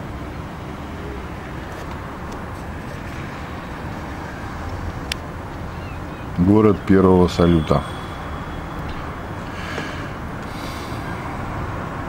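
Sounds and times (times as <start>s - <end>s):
city background rumble: 0.0s - 12.0s.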